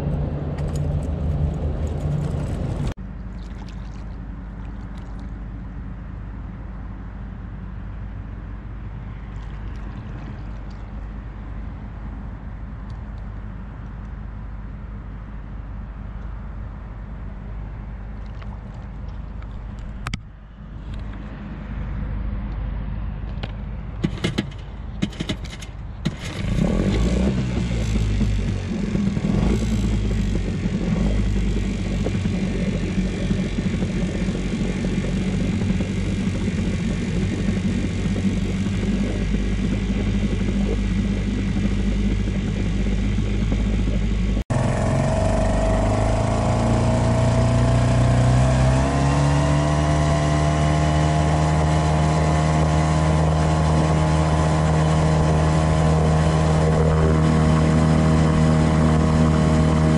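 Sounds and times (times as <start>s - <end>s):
outboard motor running: 0.0s - 20.2s, 24.0s - 59.9s.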